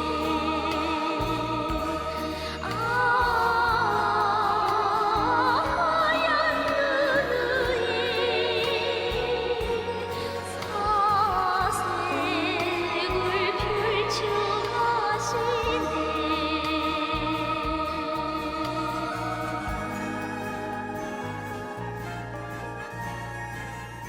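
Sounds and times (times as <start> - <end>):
pop song with vibrato melody: 0.0 - 24.0.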